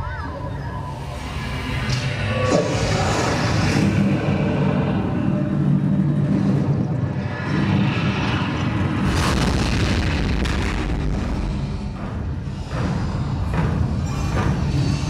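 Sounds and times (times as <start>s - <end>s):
deep rumbling soundtrack: 0.0s - 15.0s.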